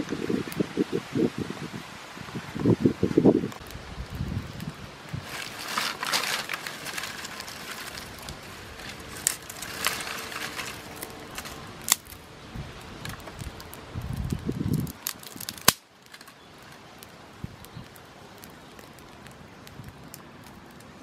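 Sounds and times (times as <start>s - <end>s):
wood fire crackling and popping: 1.5s - 21.0s.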